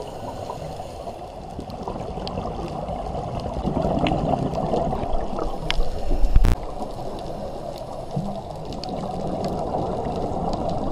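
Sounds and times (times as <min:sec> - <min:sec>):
faint underwater clicks: 0:00.0 - 0:10.9
underwater water wash: 0:00.0 - 0:10.9.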